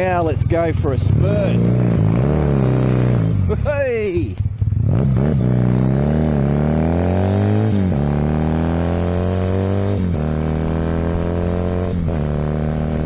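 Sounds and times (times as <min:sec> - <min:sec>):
motorcycle engine accelerating through gears: 0:00.0 - 0:13.0.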